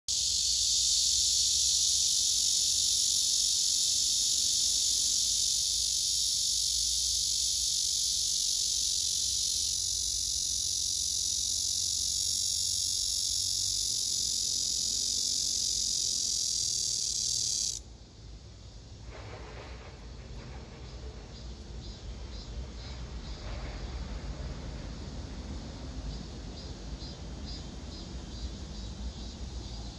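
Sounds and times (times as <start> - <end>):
cicadas buzzing: 0.1 - 19.0, 20.9 - 29.9.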